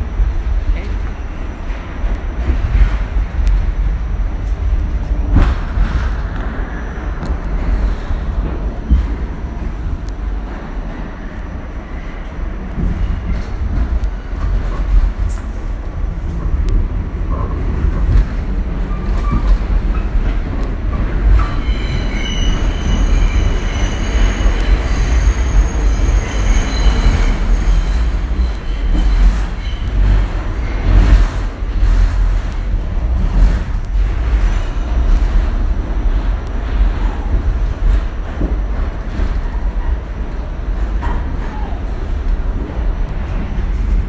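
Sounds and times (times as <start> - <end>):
subway train wheels rumbling: 0.0 - 44.0.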